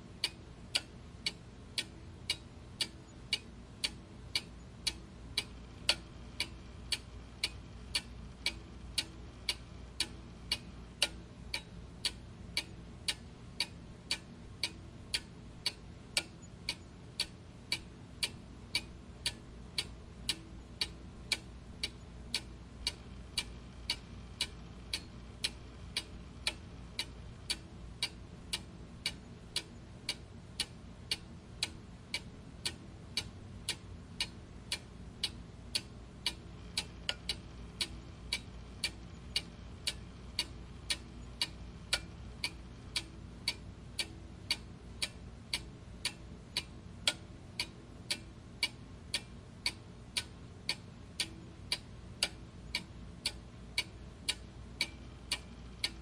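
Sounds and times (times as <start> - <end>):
faint low hum: 0.0 - 56.0
clock ticking: 0.2 - 56.0.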